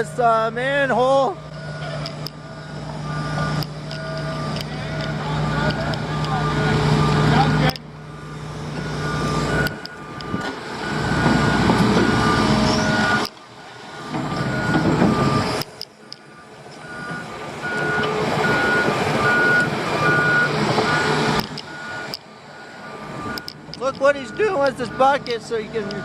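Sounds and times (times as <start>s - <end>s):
loud engine noise: 0.0s - 26.0s
back-up alarm beeping: 1.4s - 26.0s.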